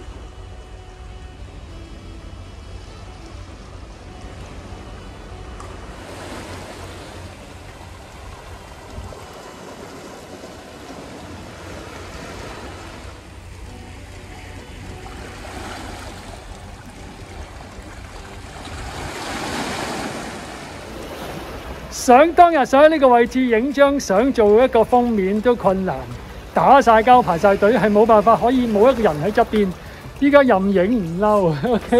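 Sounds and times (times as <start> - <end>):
sea waves washing against rocks: 0.0 - 31.9.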